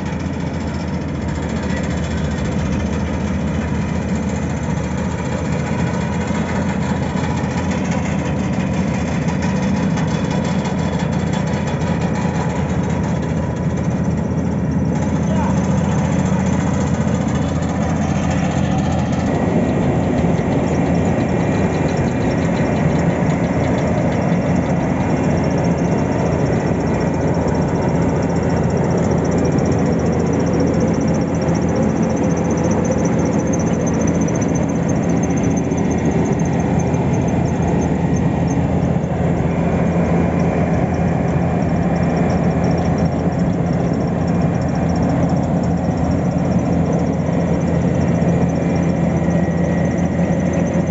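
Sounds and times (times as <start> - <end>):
heavy machinery engine running: 0.0 - 50.9.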